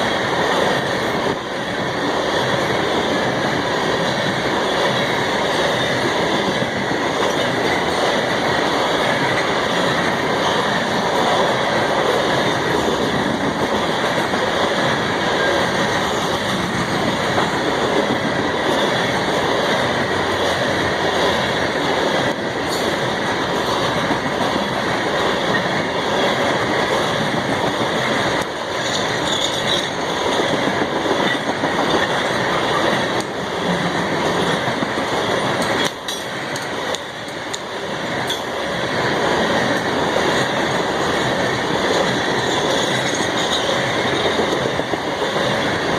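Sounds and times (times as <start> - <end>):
freight train wheels clattering: 0.0 - 45.9.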